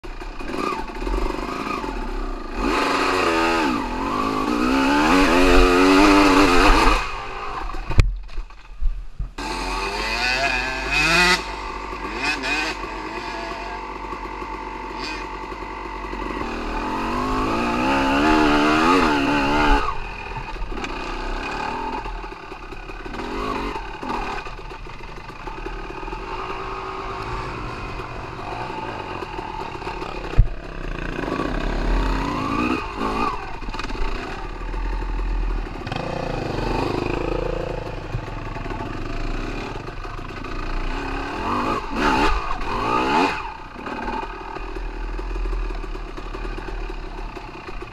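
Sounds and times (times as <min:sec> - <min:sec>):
dirt bike engine revving: 0:00.0 - 0:08.0, 0:09.4 - 0:47.9.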